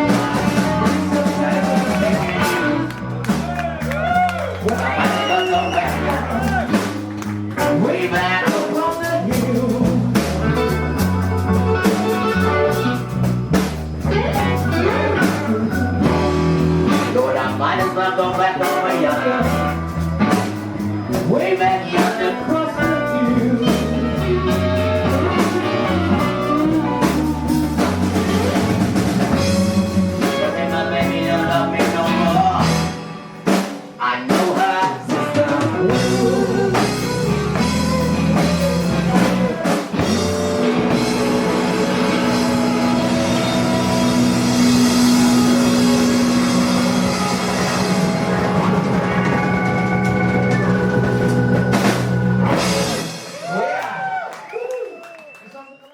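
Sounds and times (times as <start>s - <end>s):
drum kit: 0.0s - 54.2s
electric guitar: 0.0s - 54.3s
blues band playing: 0.0s - 54.8s
bass: 0.0s - 55.9s.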